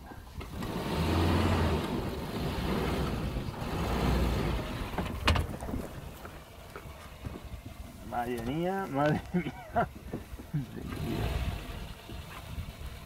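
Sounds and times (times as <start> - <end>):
car engine pulling under load: 0.0 - 13.0.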